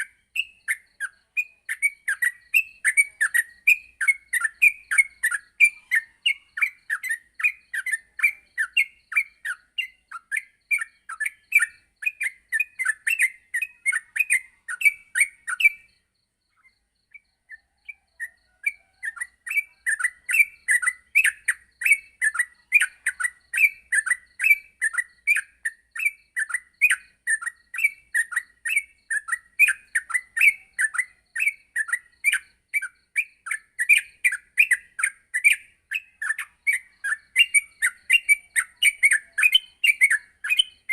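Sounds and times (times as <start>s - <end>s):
bird singing chattering notes: 0.0s - 16.1s, 17.4s - 40.9s.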